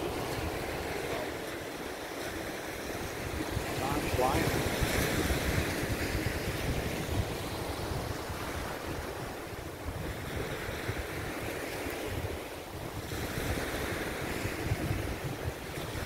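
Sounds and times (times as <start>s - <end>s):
small waves breaking on shore: 0.0s - 16.0s
wind on microphone: 0.0s - 16.0s.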